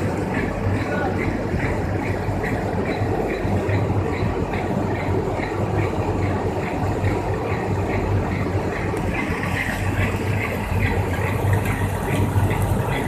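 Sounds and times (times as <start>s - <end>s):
machine hum: 0.0s - 13.0s
rhythmic clatter of rollers: 0.0s - 13.0s.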